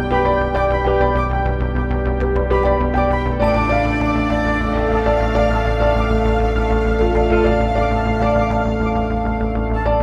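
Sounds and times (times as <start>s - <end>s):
instrumental music over bass: 0.0s - 10.0s.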